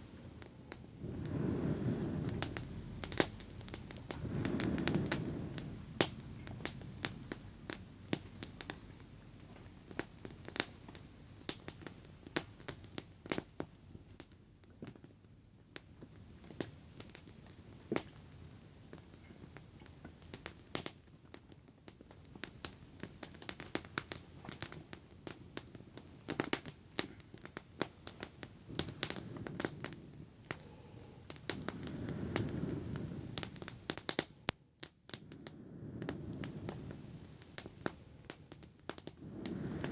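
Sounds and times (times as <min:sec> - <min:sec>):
campfire crackling: 0:00.0 - 0:39.9
fire snapping: 0:00.0 - 0:39.9.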